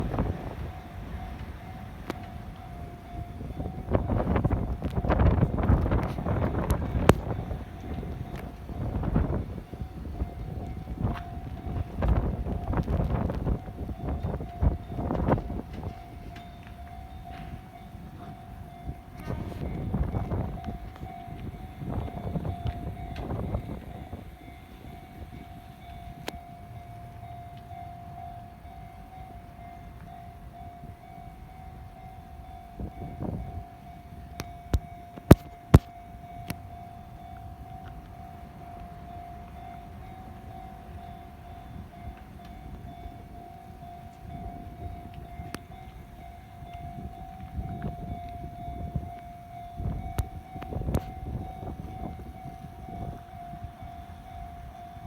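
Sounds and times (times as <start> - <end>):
level-crossing alarm ringing: 0.0 - 55.0
train rumbling on the line: 0.0 - 55.0.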